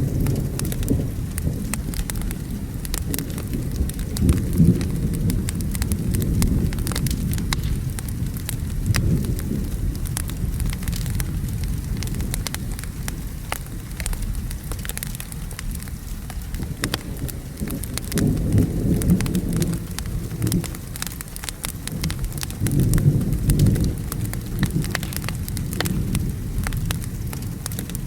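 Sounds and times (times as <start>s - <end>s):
steady rain: 0.0s - 28.0s
thunder rumble: 0.0s - 28.0s
wood fire crackling: 0.0s - 28.0s.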